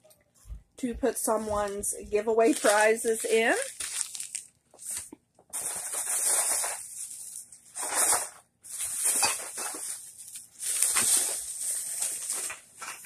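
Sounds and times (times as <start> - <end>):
plastic bag rustling: 1.1 - 13.0.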